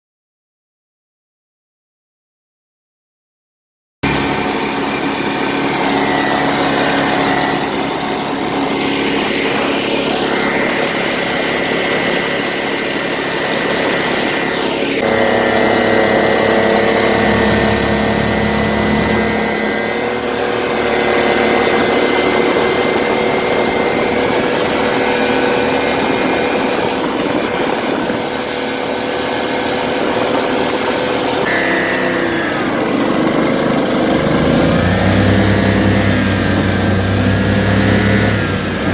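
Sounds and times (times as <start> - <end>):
engine running: 4.0 - 38.9.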